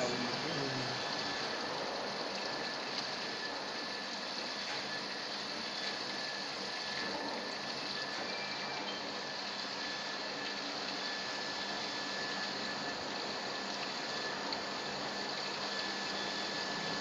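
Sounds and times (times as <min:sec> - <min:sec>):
dry-cleaning machine running: 0:00.0 - 0:17.0.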